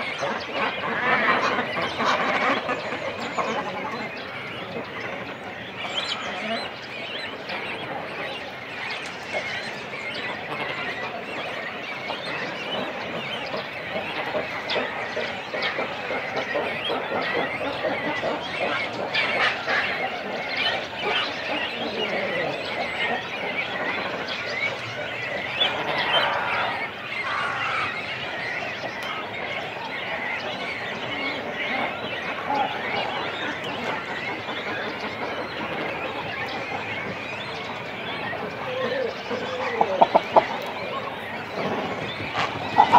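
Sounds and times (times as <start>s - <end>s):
cormorant chicks and adults calling: 0.0s - 42.9s
other birds calling: 0.0s - 42.9s.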